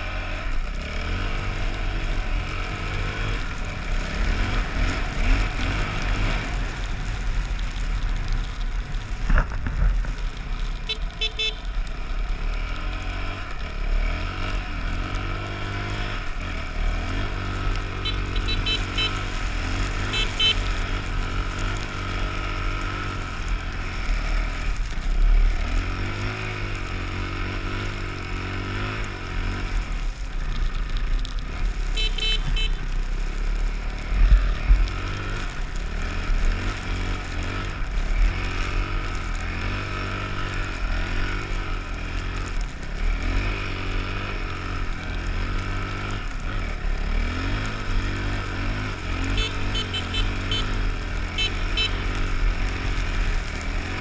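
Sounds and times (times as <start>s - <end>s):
dirt bike engine revving: 0.0s - 7.4s, 12.3s - 54.0s.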